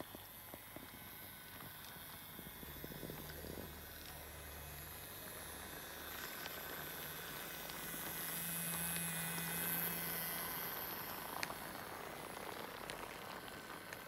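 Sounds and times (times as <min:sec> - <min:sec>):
toy train motor whirring: 0:00.0 - 0:14.0
wheels clicking on track: 0:00.0 - 0:14.0.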